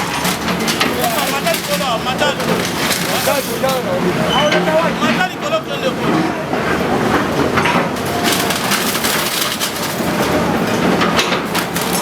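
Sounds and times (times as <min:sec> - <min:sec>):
bulldozer crushing debris: 0:00.0 - 0:12.0.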